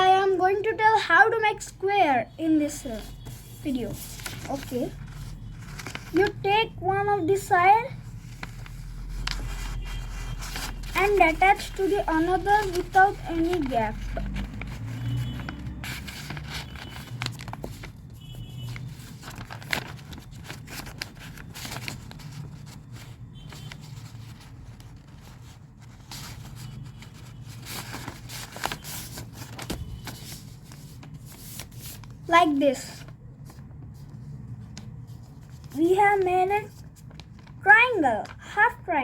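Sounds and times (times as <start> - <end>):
paper rustling and scraping: 2.6 - 38.2
paper crinkles: 2.9 - 6.5, 7.4 - 32.4, 33.0 - 37.7.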